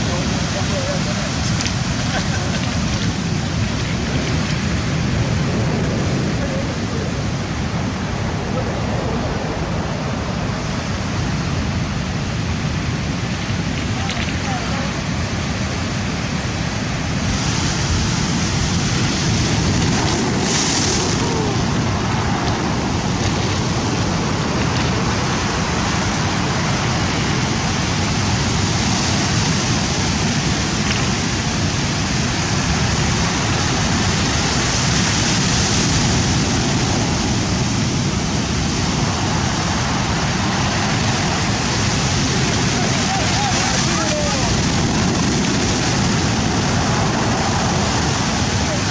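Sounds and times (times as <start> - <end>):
sea surf breaking on shore: 0.0 - 48.9
wind on microphone: 0.0 - 48.9.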